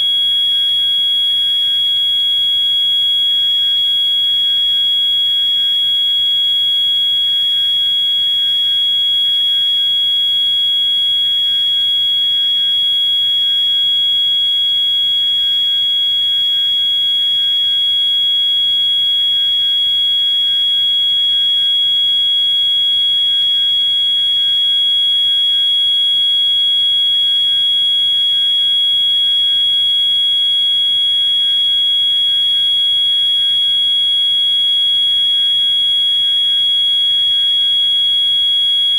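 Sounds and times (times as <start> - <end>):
fire alarm high-pitched tone: 0.0 - 38.9.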